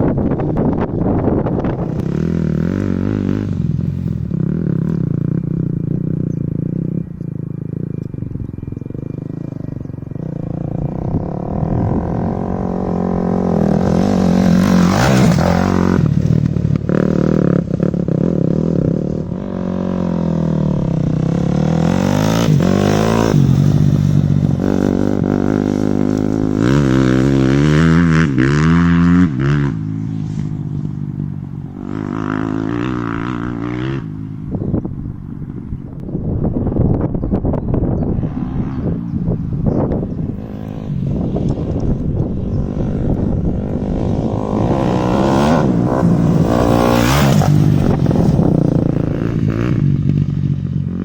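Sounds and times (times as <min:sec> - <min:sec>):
engine running and revving: 0:00.0 - 0:35.8, 0:36.5 - 0:51.0.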